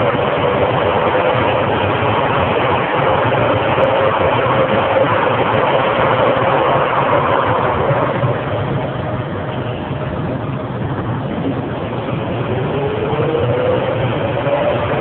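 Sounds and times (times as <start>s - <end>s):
loud rushing noise: 0.0s - 15.0s.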